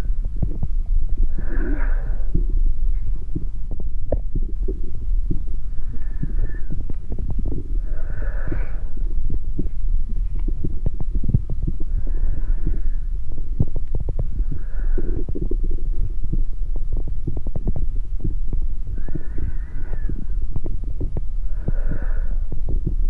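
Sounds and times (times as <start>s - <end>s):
crackles and clicks: 0.0s - 23.0s
deep body rumble: 0.0s - 23.0s.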